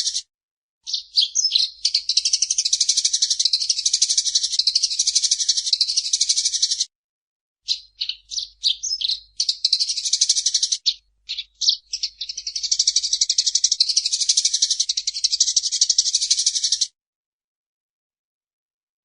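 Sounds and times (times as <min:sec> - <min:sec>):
sparrow chirping: 0:00.0 - 0:06.9, 0:07.6 - 0:16.9.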